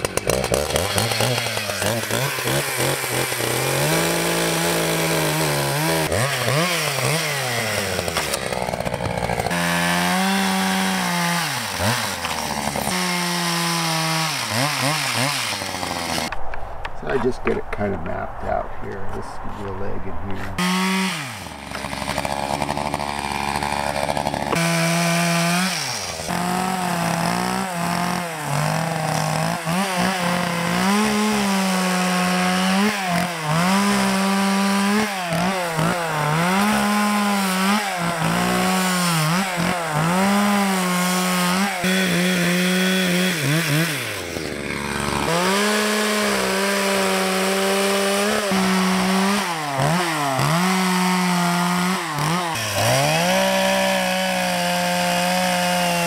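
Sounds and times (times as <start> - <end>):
chainsaw cutting log: 0.0 - 16.3, 20.6 - 56.0.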